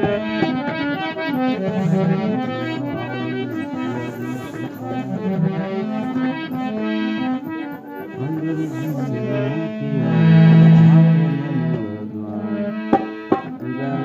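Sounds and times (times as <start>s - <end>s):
harmonium melody: 0.0s - 14.0s.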